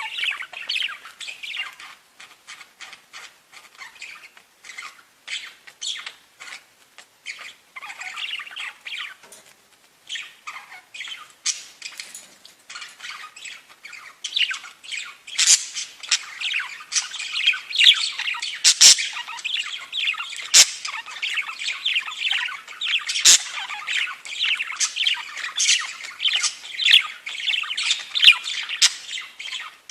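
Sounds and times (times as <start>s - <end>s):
budgerigars chattering and squawking: 0.0s - 9.4s, 10.0s - 29.9s.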